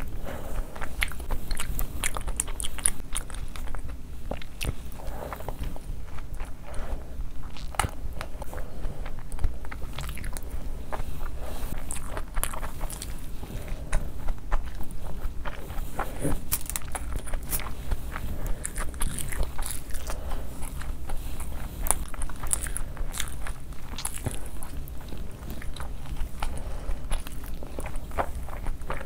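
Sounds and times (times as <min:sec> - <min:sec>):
person chewing and smacking: 0:00.0 - 0:29.0
steady low hum: 0:00.0 - 0:29.0.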